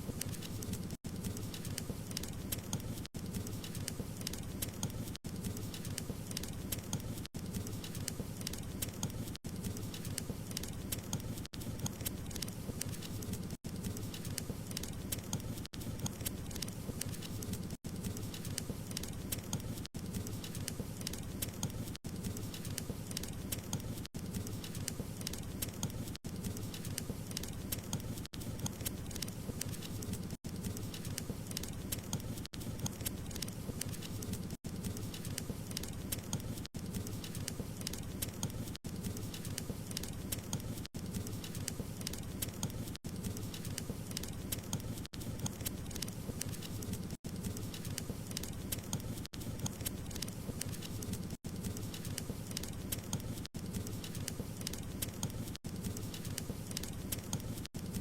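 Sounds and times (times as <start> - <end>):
wood fire popping and snapping: 0.0 - 58.0.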